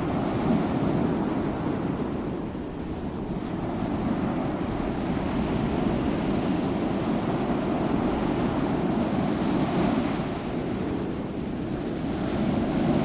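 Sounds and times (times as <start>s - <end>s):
sea waves washing on shore: 0.0s - 13.0s
wind rumble on microphone: 0.0s - 13.0s.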